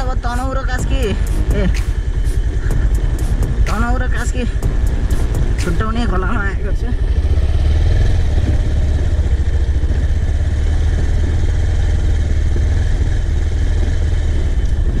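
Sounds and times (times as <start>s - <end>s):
road noise: 0.0s - 15.0s
vehicle engine droning: 0.0s - 15.0s.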